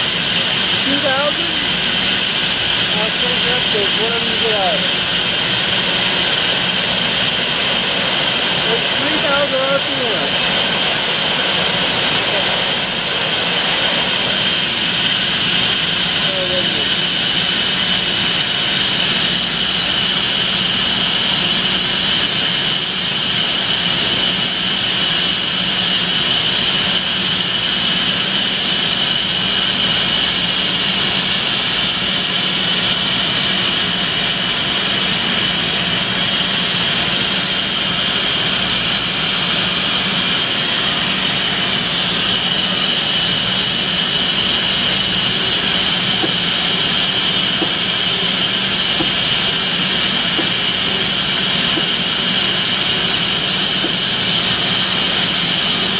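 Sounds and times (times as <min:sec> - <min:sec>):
lathe spindle whining: 0:00.0 - 0:55.9.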